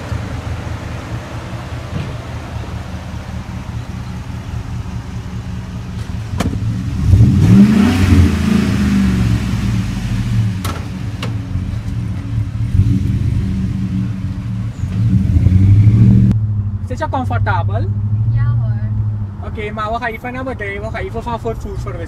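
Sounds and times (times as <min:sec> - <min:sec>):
truck engine idling and revving: 0:00.0 - 0:22.0.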